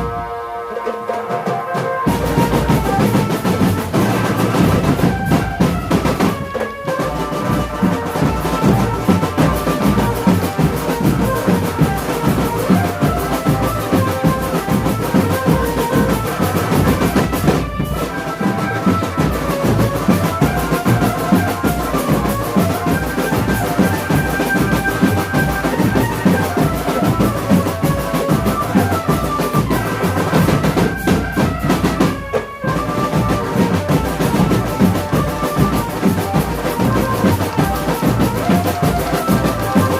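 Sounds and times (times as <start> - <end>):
band instruments melody: 0.0 - 39.9
snare and bass drums beating: 0.0 - 39.9.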